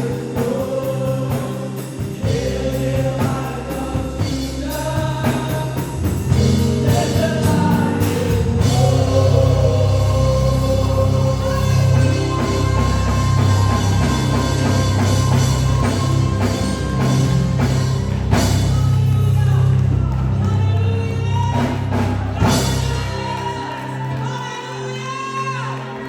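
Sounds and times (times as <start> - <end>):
drum kit and bass beat: 0.0 - 24.0
person singing: 0.0 - 26.0.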